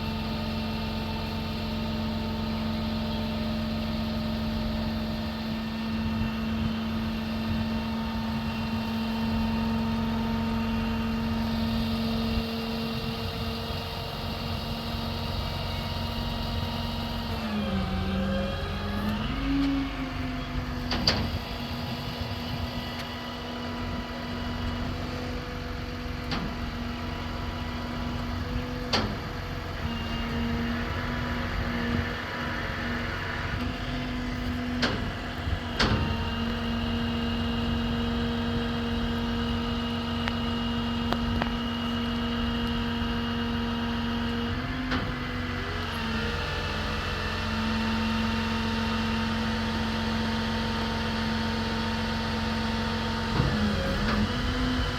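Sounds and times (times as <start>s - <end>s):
truck engine idling: 0.0s - 44.5s.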